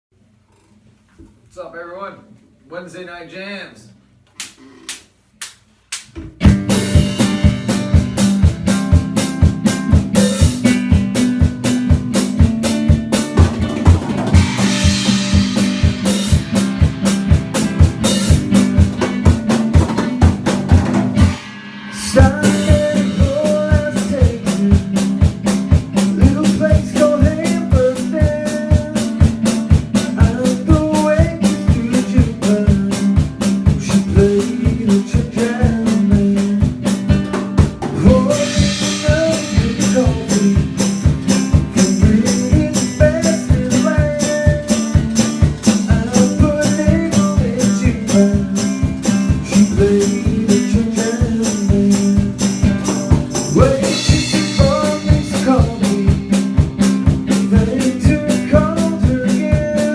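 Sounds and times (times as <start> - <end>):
drum kit beat: 4.4 - 59.9
sustained bass: 6.4 - 59.9.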